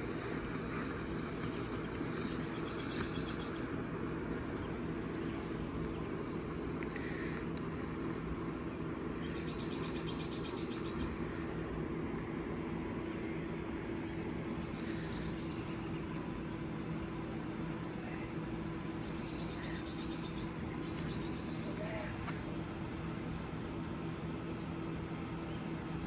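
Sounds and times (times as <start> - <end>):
birds chirping: 0.0 - 12.0, 12.8 - 22.3
steady low hum: 0.0 - 26.0.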